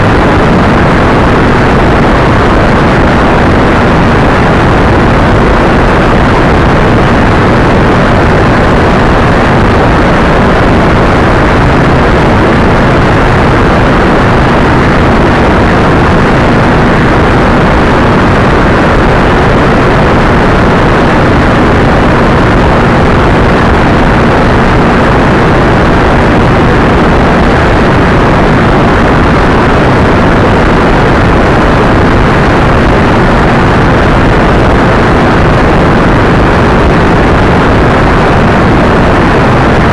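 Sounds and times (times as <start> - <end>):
faint motorcycle engine drone: 0.0 - 39.9
wind and road noise: 0.0 - 39.9.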